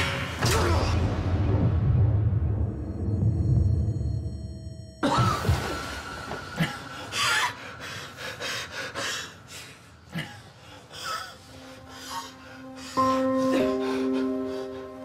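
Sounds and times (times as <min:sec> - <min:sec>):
faint dramatic music: 0:00.0 - 0:15.0.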